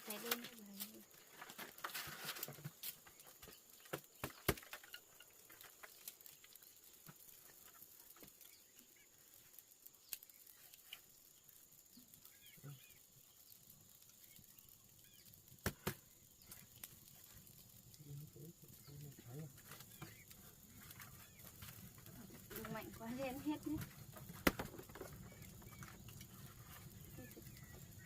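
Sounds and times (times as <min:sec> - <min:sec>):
faint bird chirps: 0:02.9 - 0:23.8, 0:24.9 - 0:28.0.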